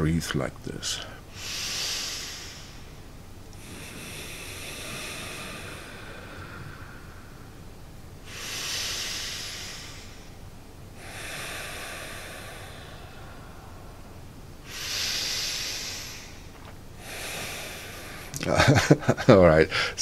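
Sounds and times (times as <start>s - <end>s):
man breathing through nose: 1.3s - 18.4s.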